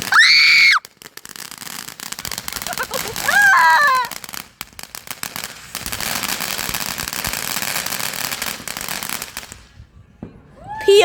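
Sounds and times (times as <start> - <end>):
firework crackling: 0.0 - 9.9.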